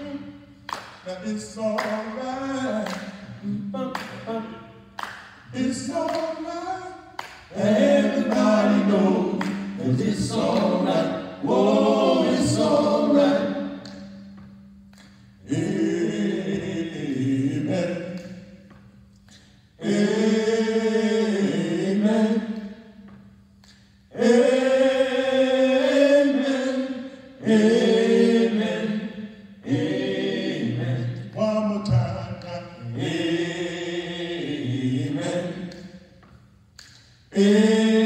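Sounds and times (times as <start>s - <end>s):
men singing a cappella: 0.0s - 4.8s, 5.4s - 14.1s, 15.4s - 18.6s, 19.8s - 23.0s, 24.1s - 36.1s, 37.3s - 38.0s.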